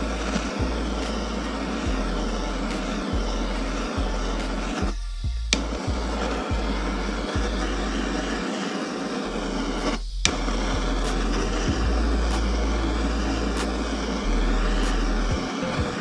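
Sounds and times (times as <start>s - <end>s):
blowtorch flame hissing: 0.0s - 16.0s.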